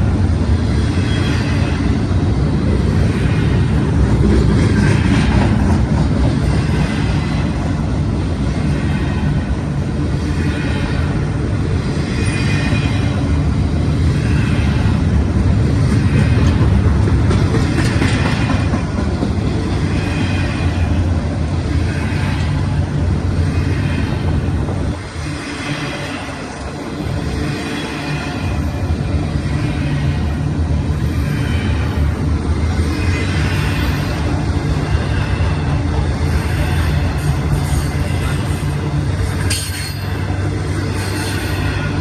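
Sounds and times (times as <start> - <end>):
freight train rumbling past: 0.0 - 42.0
wheels clacking on rails: 0.0 - 42.0.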